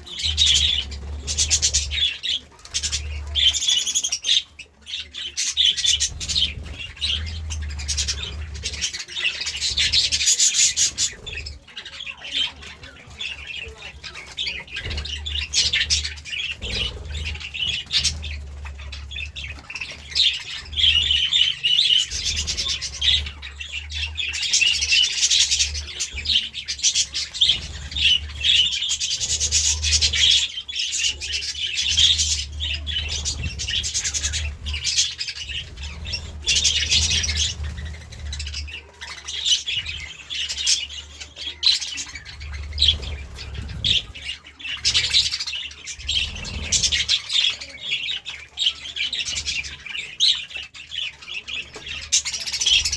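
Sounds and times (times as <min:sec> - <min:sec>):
budgerigars chirping and warbling: 0:00.0 - 0:52.9.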